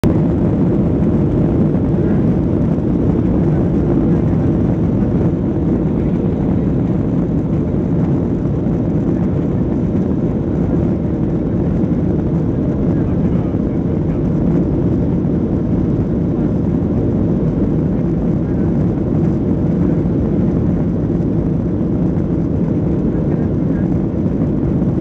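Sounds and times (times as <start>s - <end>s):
jet engines low rumble: 0.0s - 25.0s.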